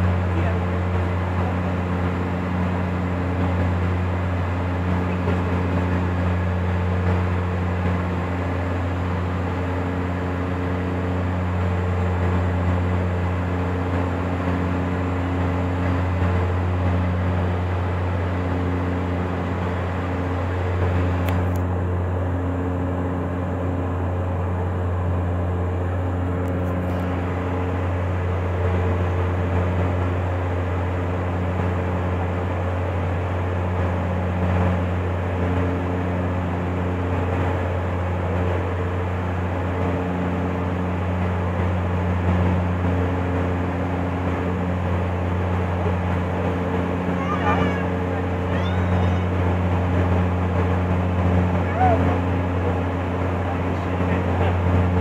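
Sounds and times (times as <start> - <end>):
higher hum tones: 0.0 - 55.0
turboprop engines droning: 0.0 - 55.0.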